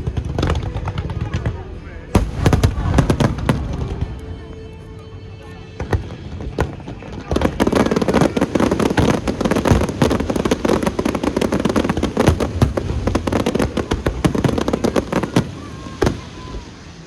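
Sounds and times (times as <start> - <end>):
fireworks crackling bangs: 2.2 - 4.9, 5.8 - 17.0.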